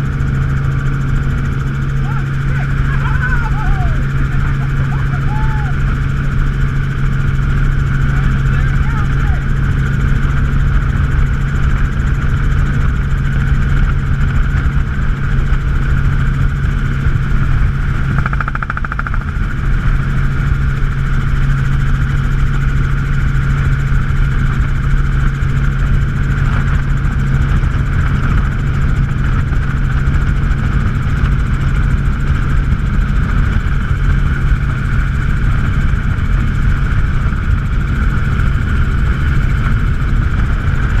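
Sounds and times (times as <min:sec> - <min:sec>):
helicopter running: 0:00.0 - 0:41.0.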